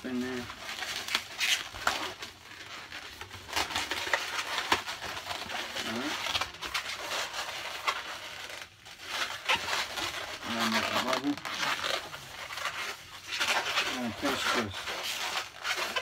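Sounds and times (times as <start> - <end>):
balloons squeaking and rubbing: 0.0 - 16.0.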